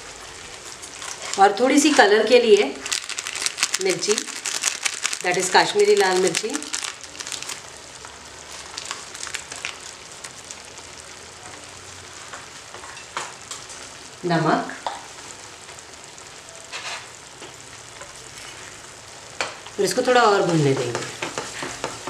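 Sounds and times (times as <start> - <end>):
paste sizzling in oil: 0.0 - 22.0.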